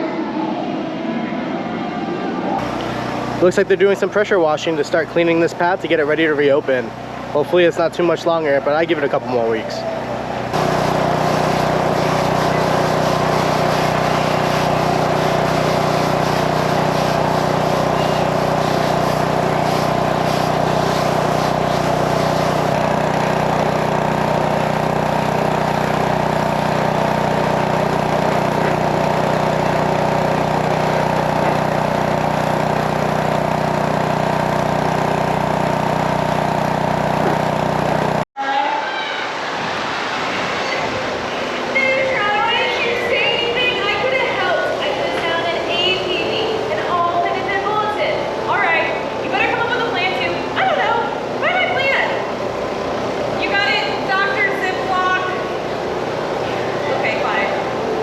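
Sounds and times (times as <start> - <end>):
pressure washer engine running: 2.6 - 38.3, 39.4 - 58.0.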